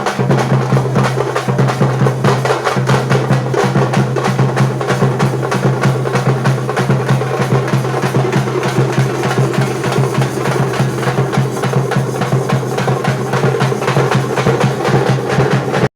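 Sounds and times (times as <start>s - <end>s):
fast drumming: 0.0s - 15.9s.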